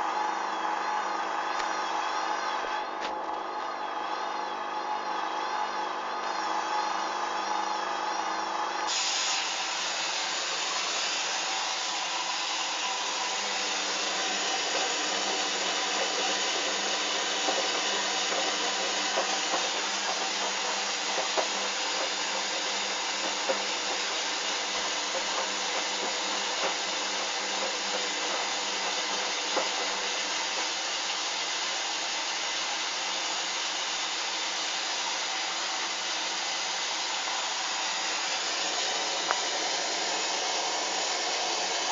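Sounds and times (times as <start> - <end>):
washing machine filling with water: 6.8 - 41.9.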